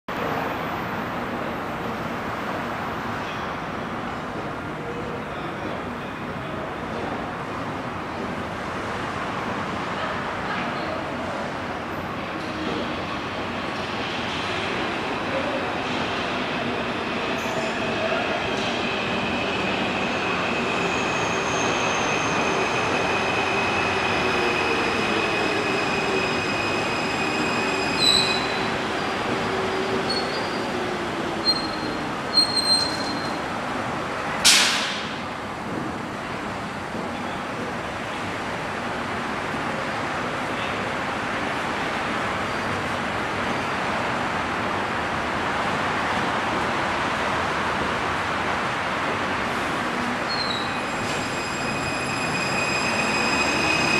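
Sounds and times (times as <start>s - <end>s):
metro train rumble: 0.1s - 53.9s.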